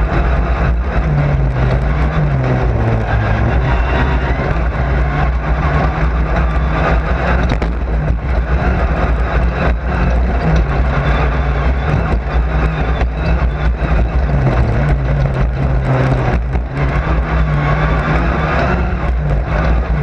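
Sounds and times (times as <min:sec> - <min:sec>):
race car engine running hard: 0:00.0 - 0:20.0
road and tyre noise: 0:00.0 - 0:20.0.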